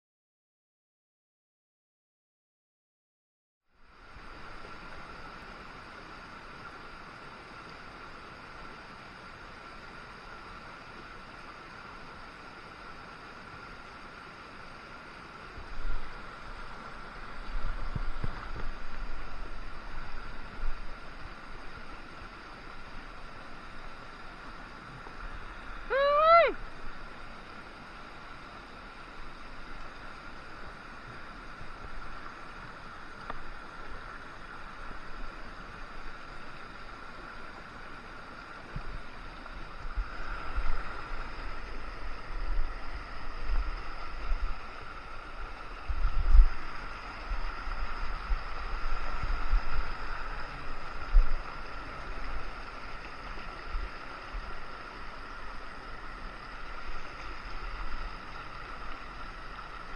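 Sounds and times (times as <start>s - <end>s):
stream rushing over boulders: 3.8s - 59.9s.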